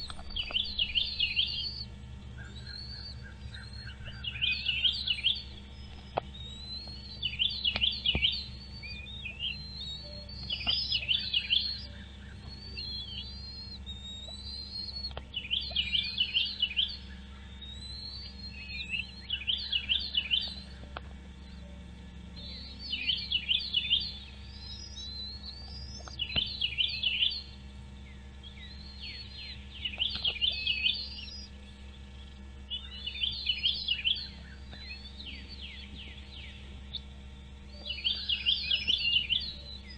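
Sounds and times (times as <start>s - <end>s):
bird chirping: 0.0s - 39.9s
steady low hum: 0.0s - 39.9s.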